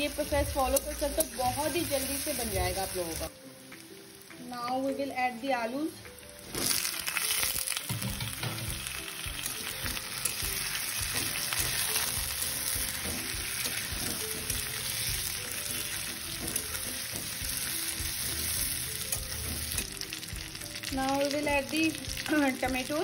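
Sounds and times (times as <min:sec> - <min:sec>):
potatoes sizzling in oil: 0:00.0 - 0:23.0.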